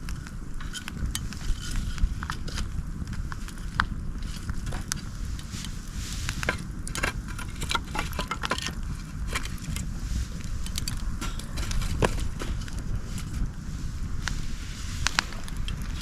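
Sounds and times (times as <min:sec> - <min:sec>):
campfire crackling and popping: 0:00.0 - 0:16.0
low rumble of burning: 0:00.0 - 0:16.0.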